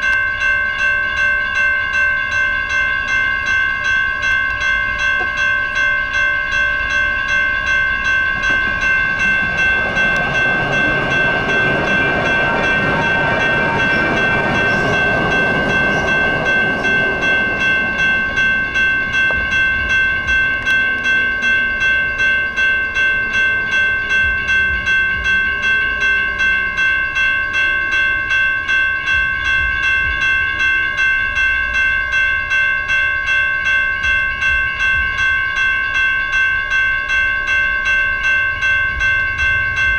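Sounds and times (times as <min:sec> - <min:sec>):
crossing warning bells ringing: 0:00.0 - 0:39.9.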